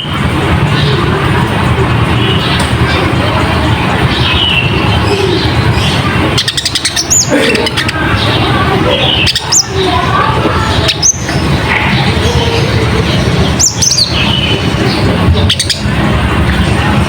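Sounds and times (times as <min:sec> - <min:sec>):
dense busy background: 0:00.0 - 0:17.0.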